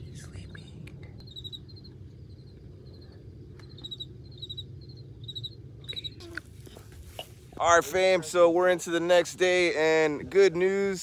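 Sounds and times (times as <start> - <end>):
crickets chirping: 0.0 - 11.0
low steady rumble: 0.0 - 11.0.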